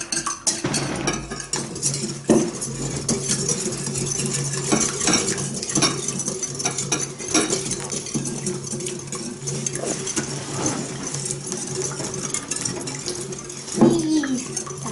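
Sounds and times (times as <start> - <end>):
whisk beating eggs in glass bowl: 1.6 - 14.9.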